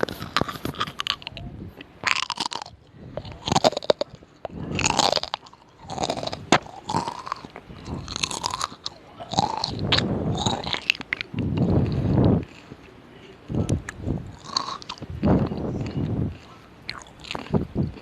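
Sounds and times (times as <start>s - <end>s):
crunching: 0.0s - 18.0s.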